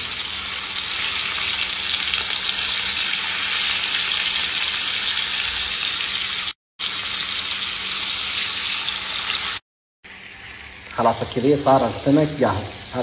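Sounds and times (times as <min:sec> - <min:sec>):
fish sizzling in a frying pan: 0:00.0 - 0:13.0.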